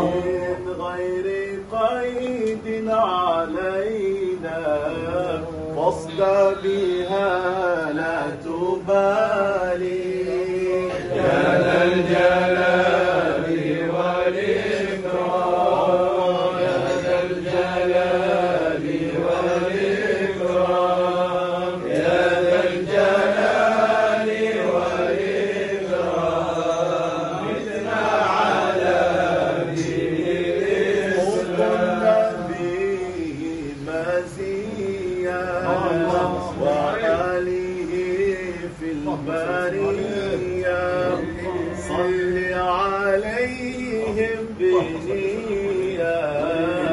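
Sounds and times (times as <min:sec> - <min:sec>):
men chanting together: 0:02.8 - 0:43.3, 0:43.9 - 0:46.9.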